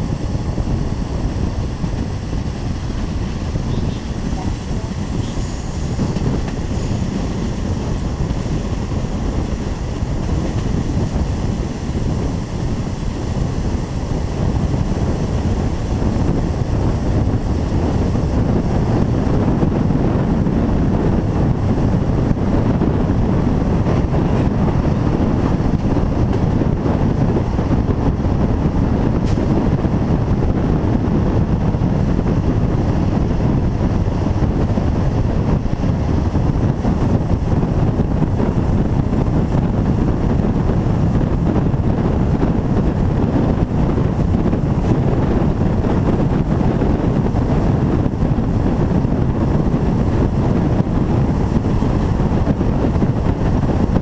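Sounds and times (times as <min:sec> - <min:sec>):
train rumbling on rails: 0:00.0 - 0:54.0
wind buffeting microphone: 0:00.0 - 0:54.0.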